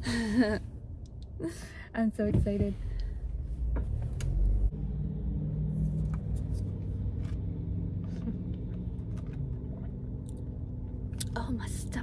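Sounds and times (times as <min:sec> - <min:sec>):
car cabin rumble: 0:02.0 - 0:12.0.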